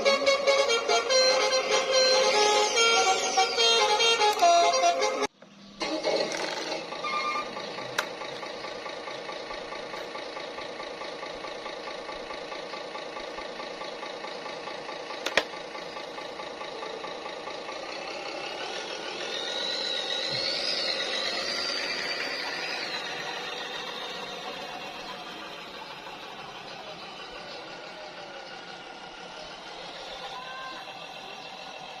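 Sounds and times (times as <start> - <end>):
simulated diesel engine idling: 0.0 - 32.0.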